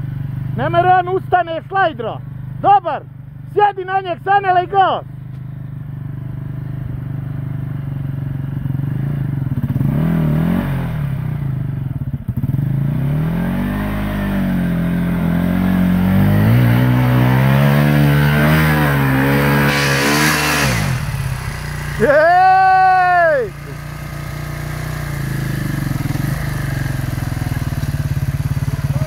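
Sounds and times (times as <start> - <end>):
motorcycle engine revving: 4.8 - 29.0.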